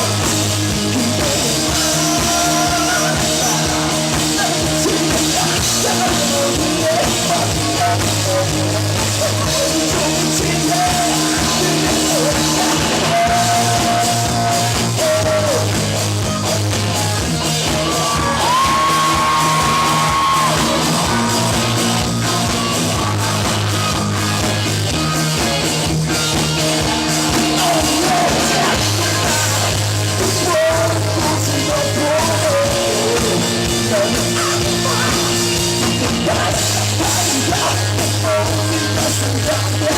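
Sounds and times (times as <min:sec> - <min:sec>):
person singing: 0:00.0 - 0:16.6, 0:17.4 - 0:25.5, 0:26.4 - 0:39.9
live rock band playing: 0:00.0 - 0:39.9.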